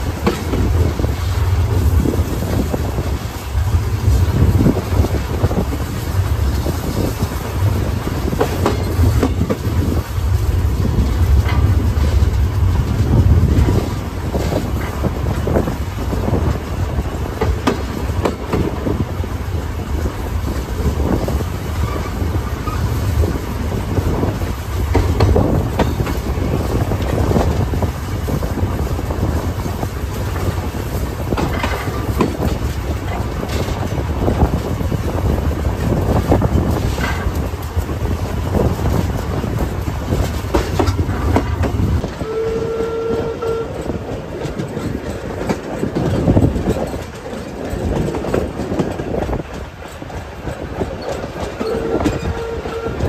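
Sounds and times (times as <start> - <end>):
train rumbling: 0.0 - 53.0
wheels clicking over track: 0.0 - 53.0
wind buffeting microphone: 0.0 - 53.0.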